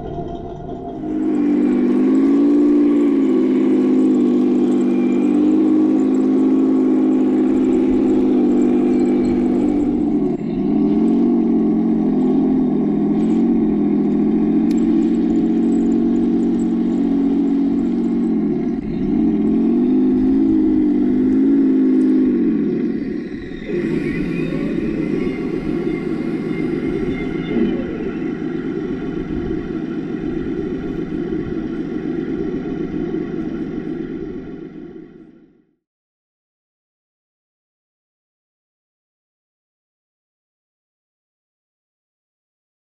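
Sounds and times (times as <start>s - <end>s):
simulated tank engine from small speaker: 0.0s - 35.8s.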